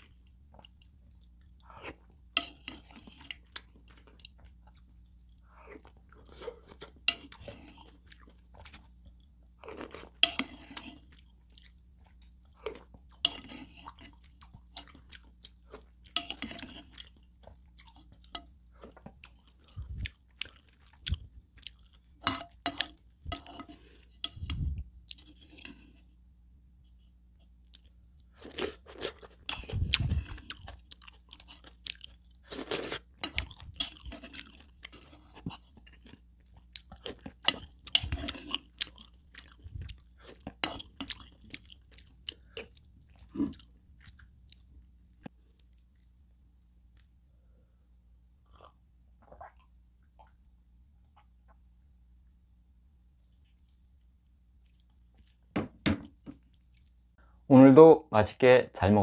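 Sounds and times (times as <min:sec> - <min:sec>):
person chewing: 0:00.0 - 0:26.2, 0:27.4 - 0:47.3, 0:48.4 - 0:50.4, 0:54.6 - 0:55.5.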